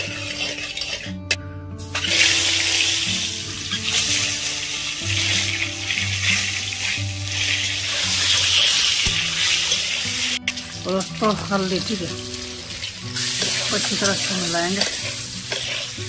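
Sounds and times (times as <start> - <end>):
eggs sizzling in hot oil: 0.0 - 16.0.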